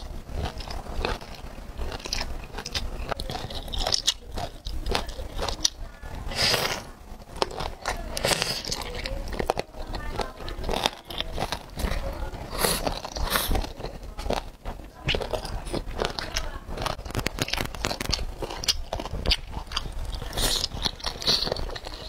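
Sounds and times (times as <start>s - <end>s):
wet crunchy chewing: 0.0s - 22.0s.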